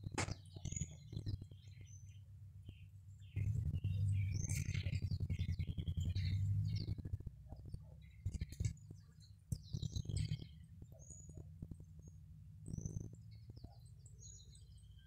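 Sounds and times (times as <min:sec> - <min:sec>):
low rumble on microphone: 0:00.0 - 0:15.0
songbirds chirping: 0:00.0 - 0:15.0.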